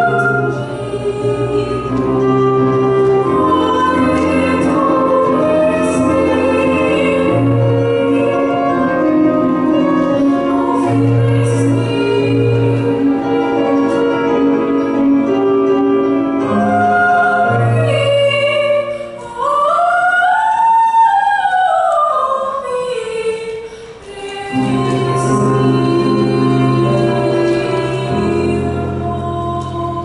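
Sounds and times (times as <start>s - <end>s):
woman singing: 0.0s - 14.6s, 16.4s - 30.0s
instrumental accompaniment: 0.0s - 19.5s, 23.9s - 30.0s.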